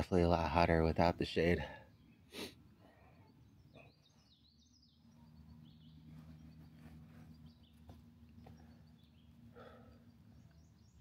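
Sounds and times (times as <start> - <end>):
faint high bird chirps: 1.8 - 11.0.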